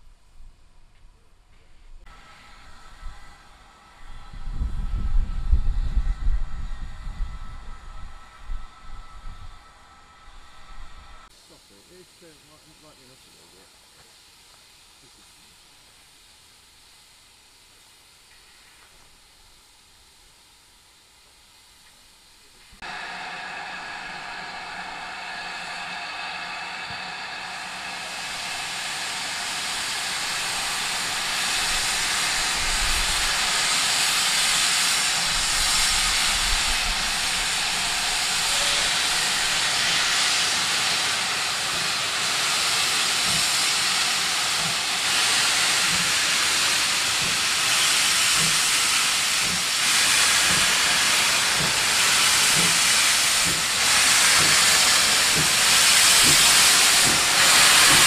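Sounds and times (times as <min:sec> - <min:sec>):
loud hiss of steam: 0:02.0 - 0:58.0.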